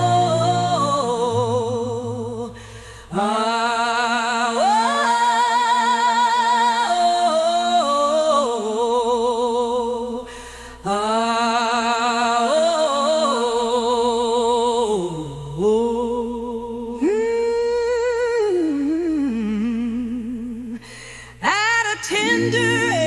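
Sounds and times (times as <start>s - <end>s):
person singing wordless vowels: 0.0s - 20.8s, 21.4s - 23.0s.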